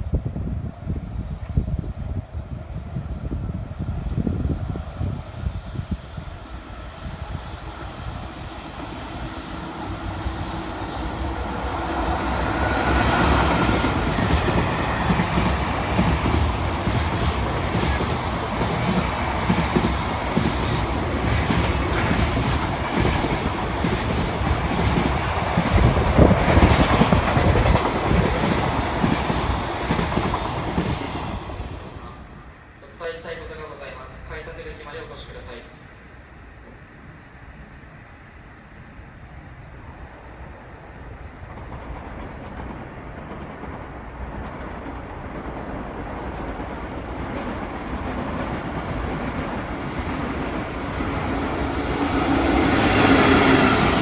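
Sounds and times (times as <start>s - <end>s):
freight train rumble: 0.0s - 54.0s.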